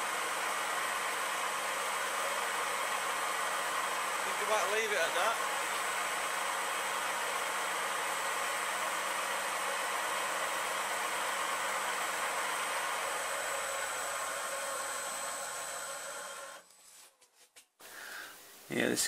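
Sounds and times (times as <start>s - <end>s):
milling machine motor running: 0.0s - 16.6s.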